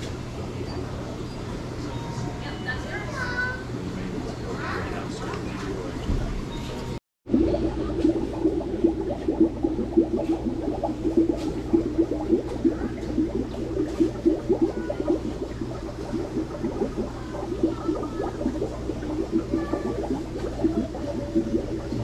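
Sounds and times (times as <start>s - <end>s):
tank pump humming: 0.4s - 22.0s
aquarium water bubbling: 3.4s - 6.6s, 7.2s - 22.0s.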